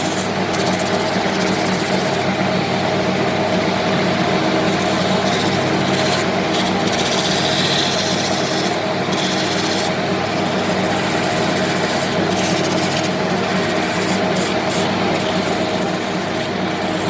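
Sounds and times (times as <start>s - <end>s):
tool rubbing spinning wood: 0.0s - 2.4s, 4.2s - 17.0s
wood lathe motor running: 0.0s - 17.0s.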